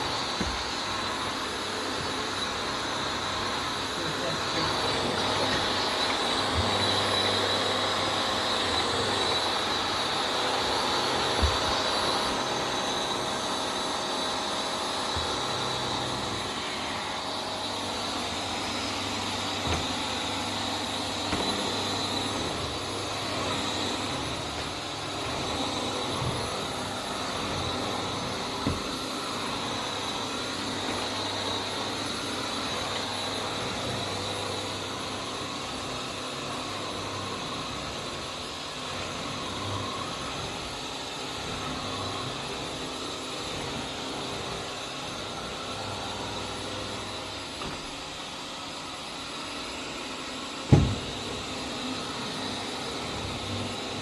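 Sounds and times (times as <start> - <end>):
vacuum cleaner motor whine: 0.0 - 54.0.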